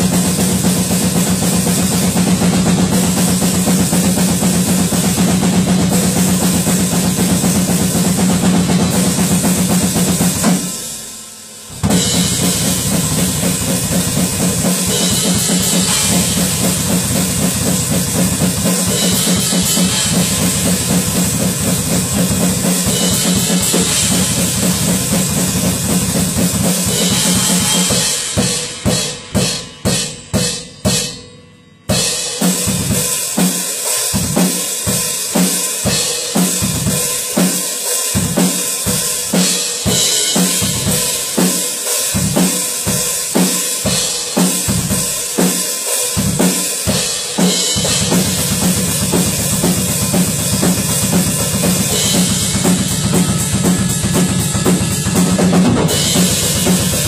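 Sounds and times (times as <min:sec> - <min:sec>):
acoustic drum kit playing fast: 0:00.0 - 0:31.3, 0:31.9 - 0:57.0.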